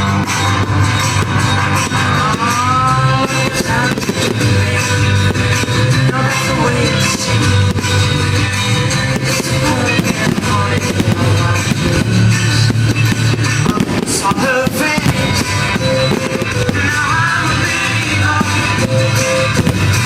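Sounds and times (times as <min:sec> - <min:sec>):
fireworks exploding: 0:00.0 - 0:20.0
loud rock music: 0:00.0 - 0:20.0.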